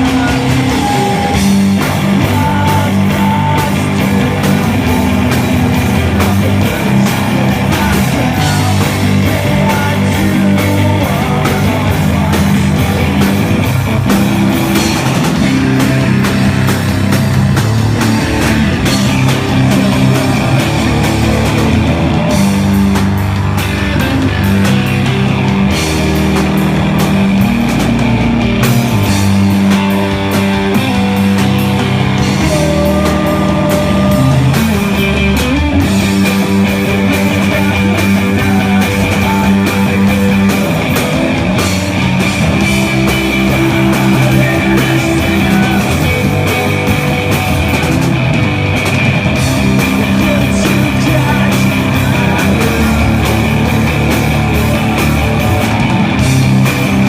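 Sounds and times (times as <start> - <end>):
drum and cymbal hits: 0.0 - 57.0
electric guitar chords: 0.0 - 57.0.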